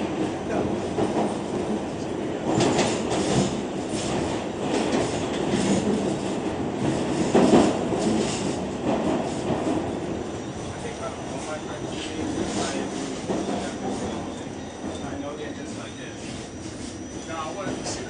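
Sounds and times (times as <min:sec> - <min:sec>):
subway train rumbling on track: 0:00.0 - 0:18.0.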